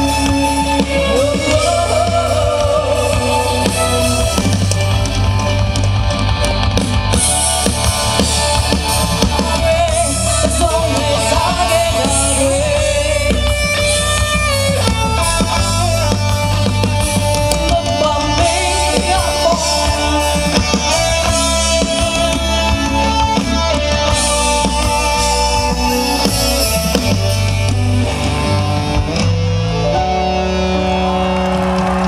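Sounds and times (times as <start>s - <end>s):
live rock band music: 0.0s - 32.0s.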